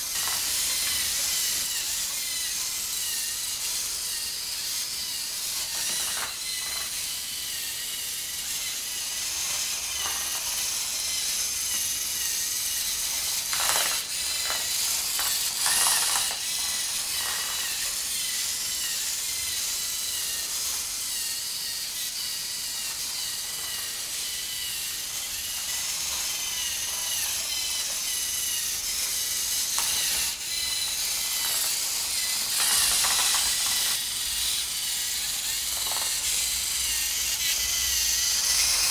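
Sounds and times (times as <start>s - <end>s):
robot motors whirring: 0.0s - 38.9s.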